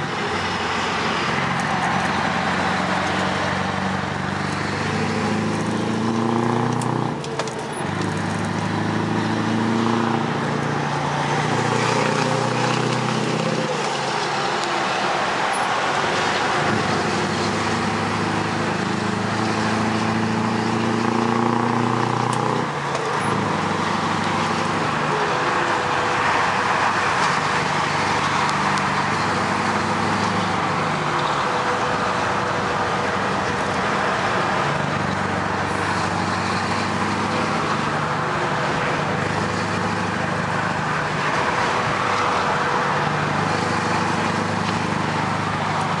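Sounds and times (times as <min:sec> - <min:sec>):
diesel truck engine running: 0:00.0 - 0:46.0
road and wind noise: 0:00.0 - 0:46.0.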